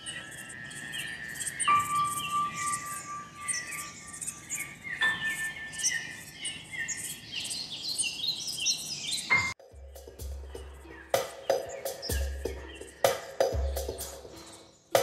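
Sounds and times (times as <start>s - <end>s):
bird and insect chirping: 0.0s - 15.0s.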